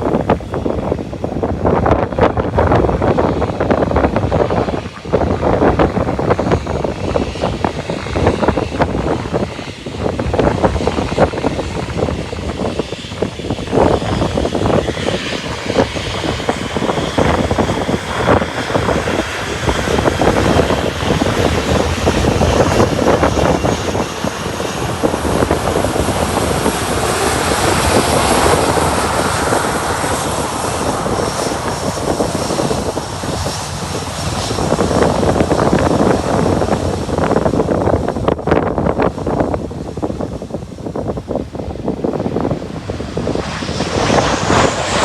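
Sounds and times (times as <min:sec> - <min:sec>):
aircraft engines running: 0:00.0 - 0:45.0
wind buffeting microphone: 0:00.0 - 0:45.0.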